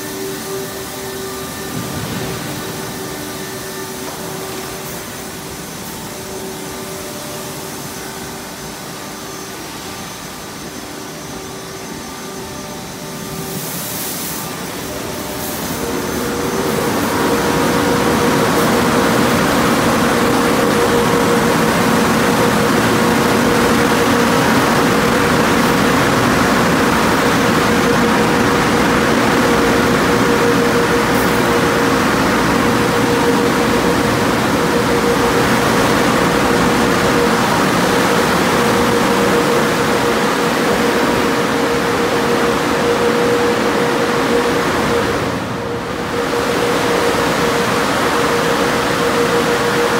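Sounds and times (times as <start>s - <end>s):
dryer blowers rushing air: 0.0s - 49.9s
steady whine: 0.0s - 49.9s.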